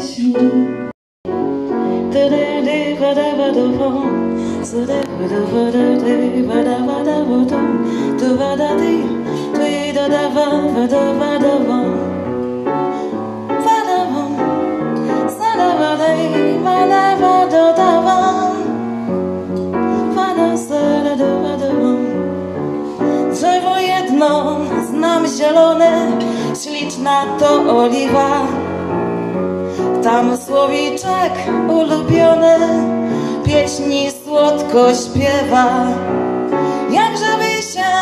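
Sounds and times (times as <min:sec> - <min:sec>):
woman singing a hymn: 0:00.0 - 0:00.9, 0:02.0 - 0:12.2, 0:13.5 - 0:18.9, 0:20.0 - 0:22.3, 0:23.2 - 0:28.8, 0:30.0 - 0:38.0
grand piano: 0:00.0 - 0:38.0.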